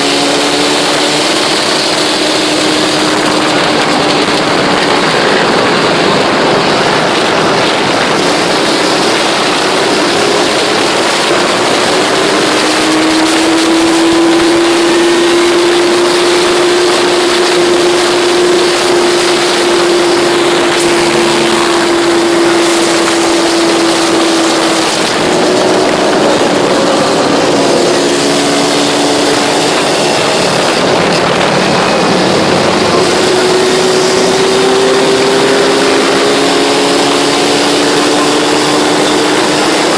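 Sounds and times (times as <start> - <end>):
atv engines running: 0.0 - 39.9
wind on microphone: 0.0 - 39.9.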